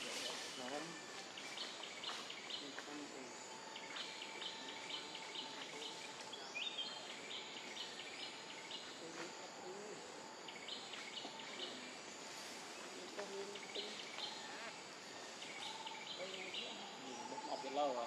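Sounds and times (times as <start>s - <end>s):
bird chirping: 0.0s - 18.0s
steady background hiss: 0.0s - 18.0s.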